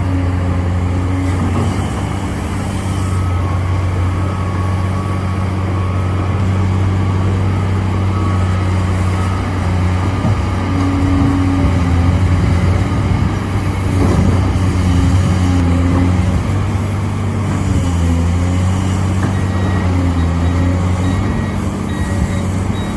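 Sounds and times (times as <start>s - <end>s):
excavator diesel engine drone: 0.0s - 22.9s.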